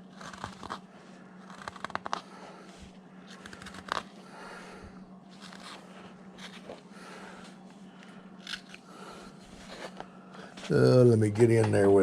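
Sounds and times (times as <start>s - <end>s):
knife shaving wood: 0.0s - 10.8s.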